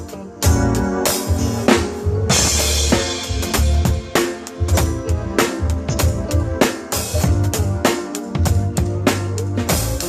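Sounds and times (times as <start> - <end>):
drum kit beat: 0.0 - 10.0
live band playing: 0.0 - 10.0.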